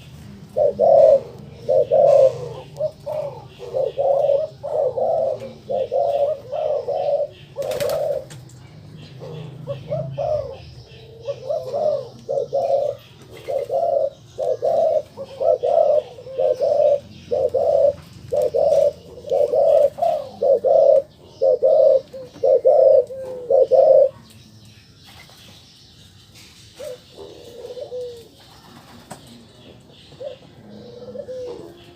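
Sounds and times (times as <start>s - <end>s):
dove cooing: 0.0s - 24.3s, 26.7s - 31.9s.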